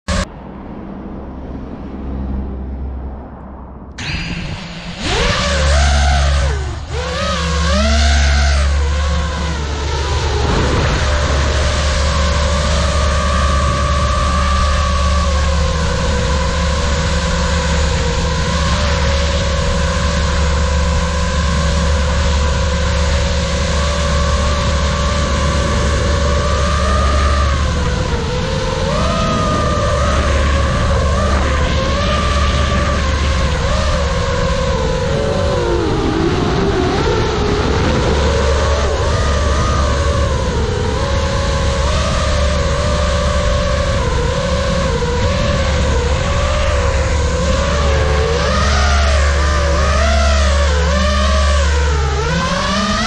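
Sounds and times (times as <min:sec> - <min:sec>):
high motor whine: 0:00.0 - 0:53.0
quadcopter motors rumbling: 0:00.0 - 0:53.0
wind noise: 0:00.0 - 0:53.0.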